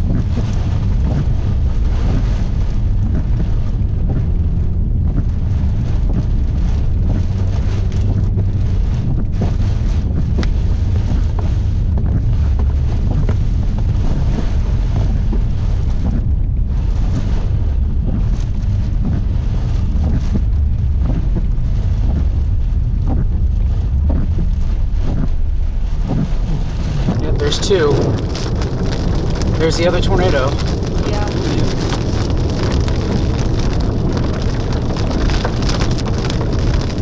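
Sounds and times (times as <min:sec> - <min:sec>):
rain ticks: 0:00.0 - 0:37.0
storm wind rumble: 0:00.0 - 0:37.0
vehicle road noise: 0:00.0 - 0:37.0.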